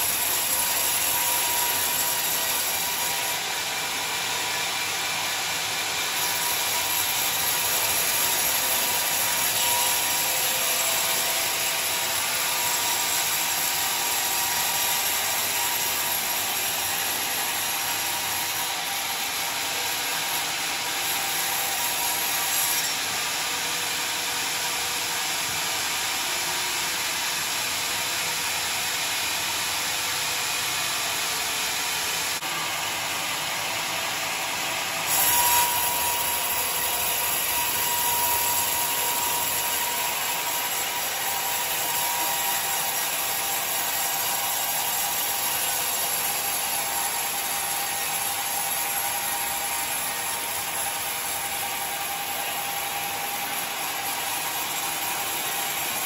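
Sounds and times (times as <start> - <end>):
band saw cutting through log: 0.0 - 56.0.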